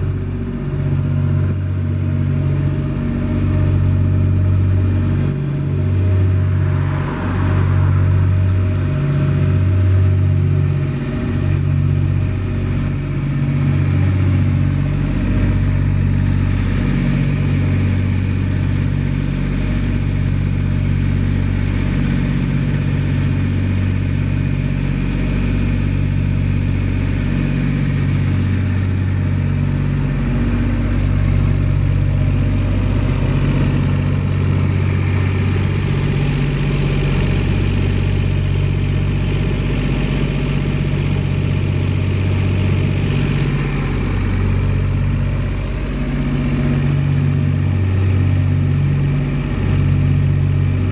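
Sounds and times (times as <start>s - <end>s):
diesel air compressor running: 0.0s - 50.9s.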